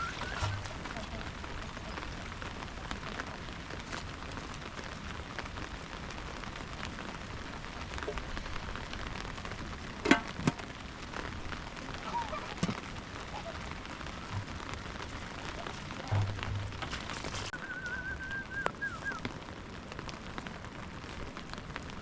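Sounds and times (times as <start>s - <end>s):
single raindrops ticking: 0.0s - 22.0s
steady rain falling: 0.0s - 22.0s.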